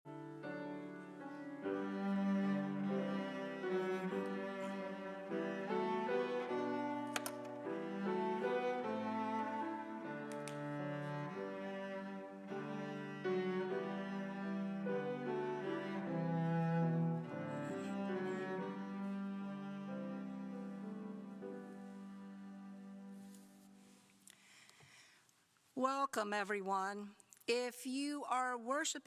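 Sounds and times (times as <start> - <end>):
slow instrumental music: 0.1 - 24.4.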